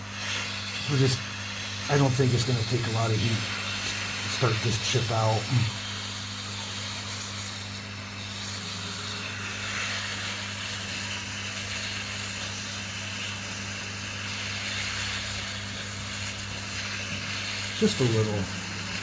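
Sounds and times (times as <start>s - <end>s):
airy hiss: 0.0s - 19.0s
hot air blower humming: 0.0s - 19.0s.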